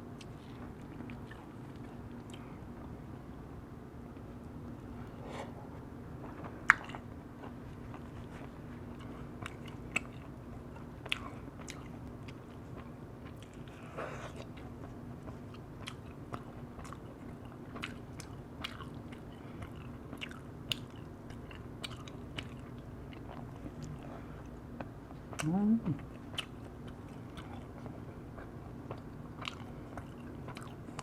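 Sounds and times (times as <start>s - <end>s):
person chewing food: 0.2s - 3.0s, 5.0s - 31.0s.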